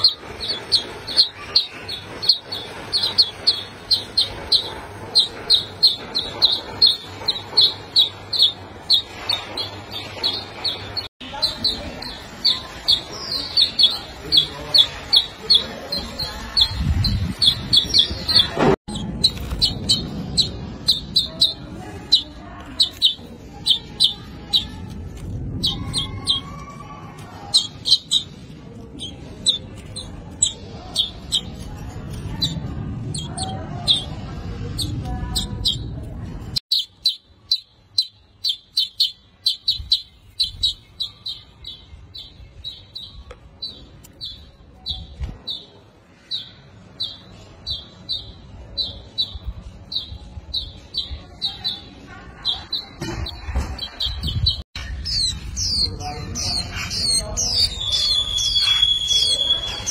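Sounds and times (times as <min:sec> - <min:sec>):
bird chirping: 0:00.0 - 0:24.9, 0:27.4 - 0:35.9, 0:36.7 - 0:59.9.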